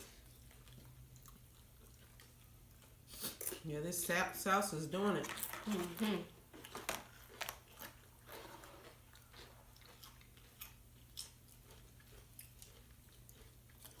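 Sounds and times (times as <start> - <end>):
chewing crunchy chips: 0.1 - 3.7, 5.3 - 14.0.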